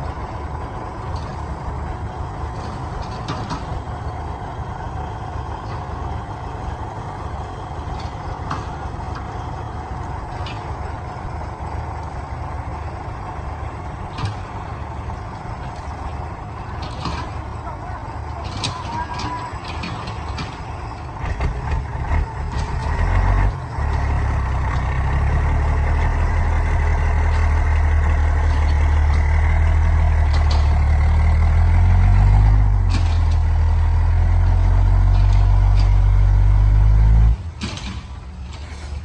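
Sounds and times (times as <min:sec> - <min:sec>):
clanks: 0:00.0 - 0:39.0
heavy diesel engine running: 0:00.0 - 0:39.0.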